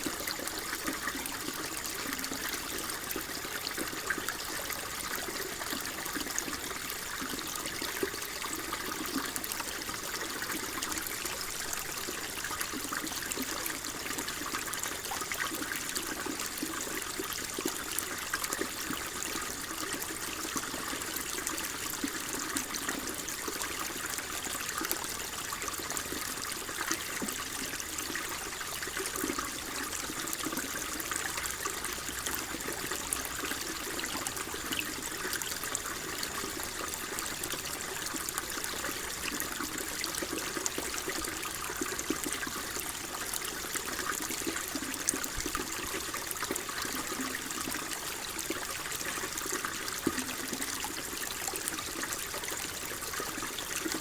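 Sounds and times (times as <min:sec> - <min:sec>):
water flowing and trickling: 0:00.0 - 0:54.0.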